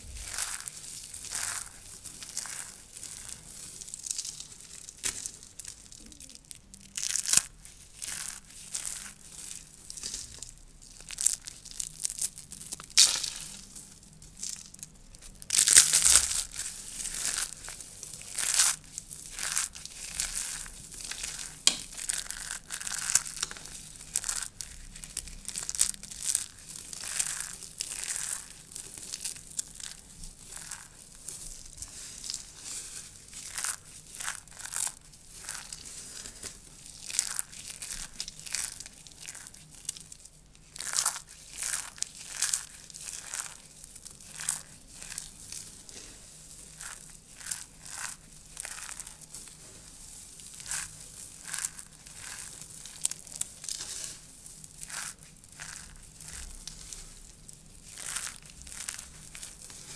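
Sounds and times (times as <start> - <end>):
soap curls crackling and crunching: 0.0 - 59.9.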